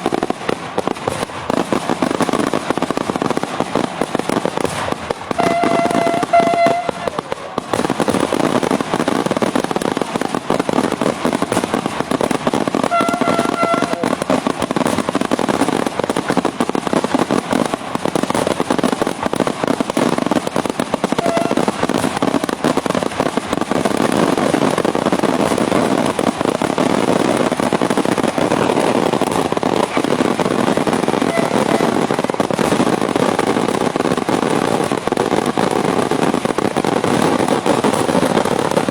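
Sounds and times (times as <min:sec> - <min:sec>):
rapid firecracker bangs: 0:00.0 - 0:38.9.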